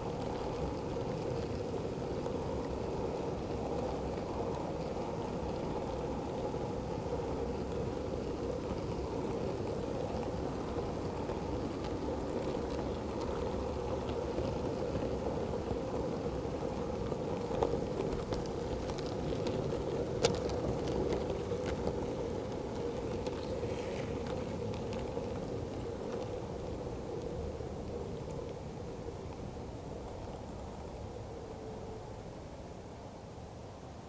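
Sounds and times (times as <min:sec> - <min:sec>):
model train motor and wheel hum: 0:00.0 - 0:34.0.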